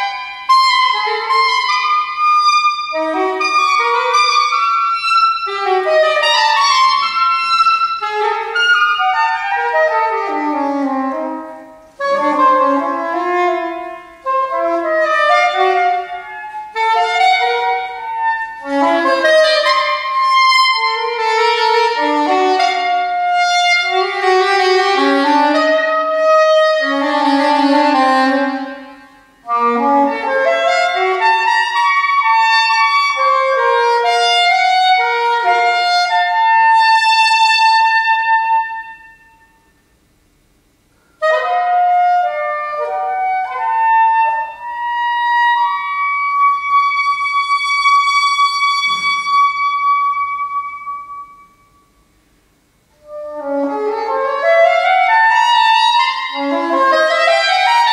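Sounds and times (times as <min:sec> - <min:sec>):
saxophone playing fast melody: 0:00.0 - 0:39.0, 0:41.2 - 0:51.6, 0:53.0 - 0:57.9.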